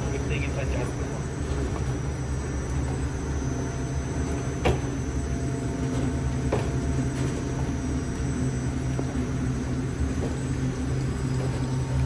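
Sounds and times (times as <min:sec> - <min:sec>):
fryer machine hum: 0:00.0 - 0:12.0.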